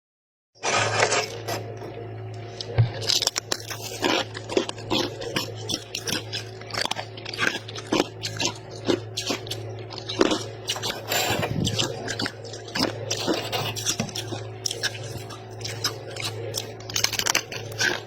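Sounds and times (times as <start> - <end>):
frost crunched and chewed: 0.6 - 18.0
steady low hum: 0.6 - 18.0.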